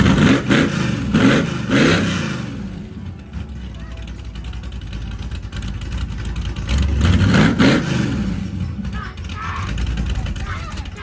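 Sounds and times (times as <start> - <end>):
car engine idling lopey: 0.0 - 11.0
engine revving: 0.0 - 11.0.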